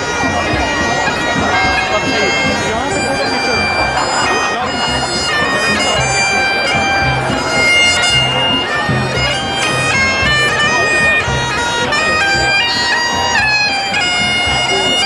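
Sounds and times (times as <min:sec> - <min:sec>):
bagpipes playing: 0:00.0 - 0:15.0.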